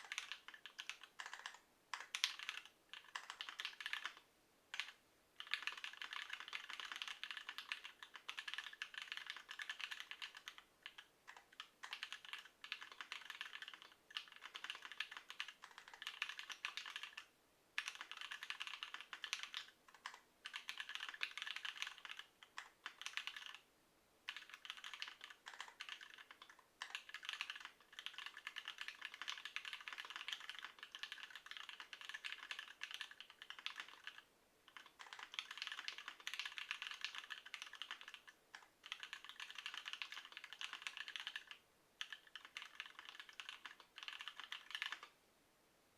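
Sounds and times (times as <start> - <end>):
fast typing on mechanical keyboard: 0.0 - 23.6, 24.3 - 45.1.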